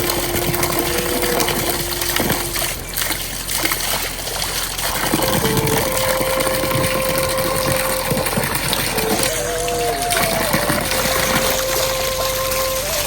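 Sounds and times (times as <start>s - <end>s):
steady mid-pitched tone: 0.0s - 4.3s, 5.1s - 13.0s
heavy rain falling: 0.0s - 13.0s.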